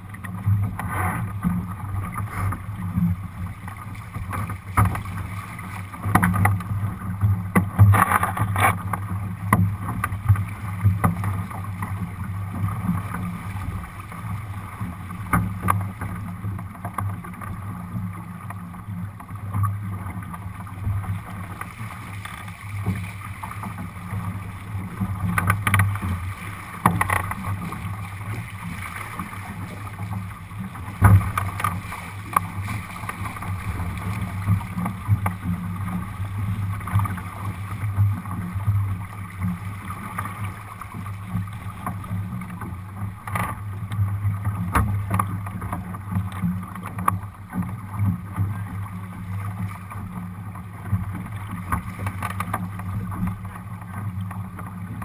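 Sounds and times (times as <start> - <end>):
water rushing along a hull: 0.0 - 55.0
wave slapping against hull: 0.0 - 55.0.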